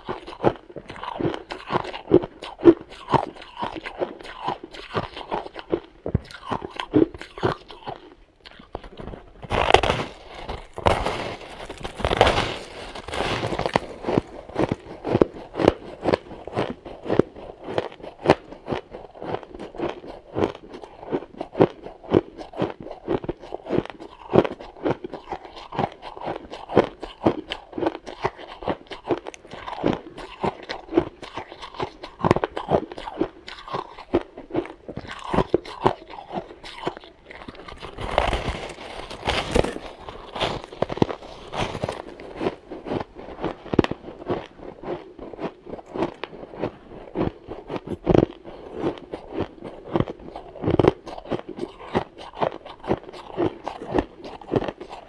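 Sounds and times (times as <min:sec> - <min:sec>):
person chewing crunchy ice: 0:00.0 - 0:55.0.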